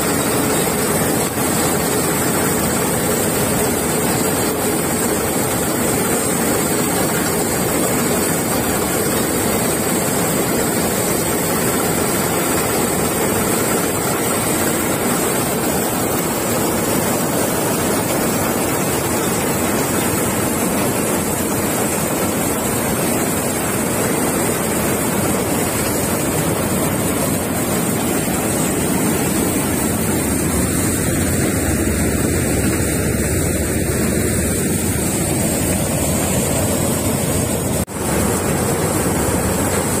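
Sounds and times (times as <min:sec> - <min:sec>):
combine harvester running: 0:00.0 - 0:40.0.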